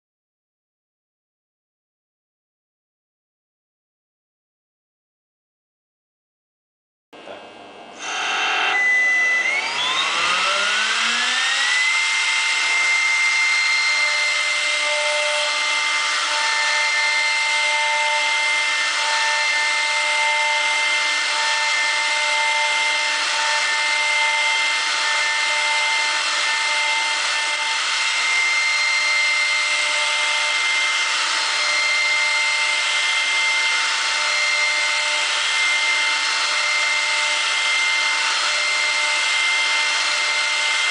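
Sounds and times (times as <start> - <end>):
cutter milling plastic: 8.0 - 40.9
router spindle whining: 8.0 - 40.9.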